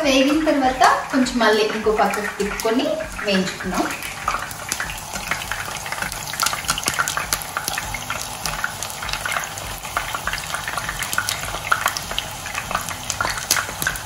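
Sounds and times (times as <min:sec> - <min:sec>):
oil sizzling and popping: 0:00.0 - 0:14.0.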